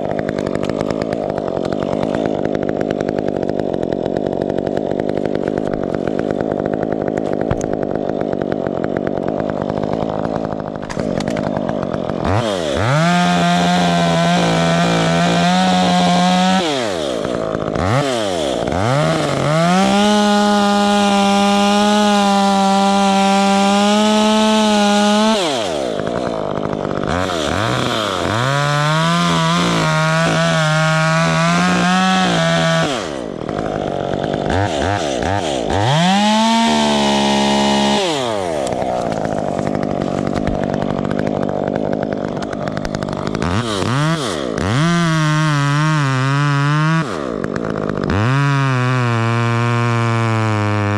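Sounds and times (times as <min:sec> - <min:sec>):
chainsaw revving and cutting wood: 0:00.0 - 0:50.9.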